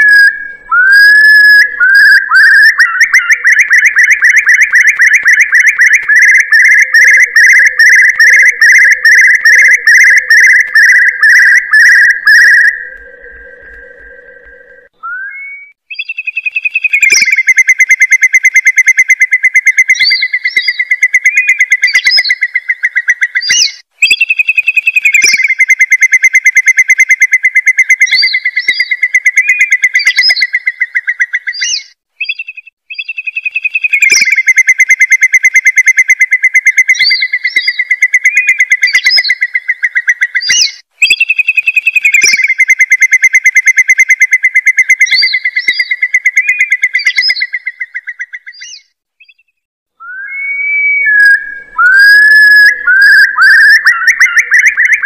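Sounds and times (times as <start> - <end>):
curlew whistled trills: 0.0 - 55.0
higher bird whistles: 0.0 - 55.0.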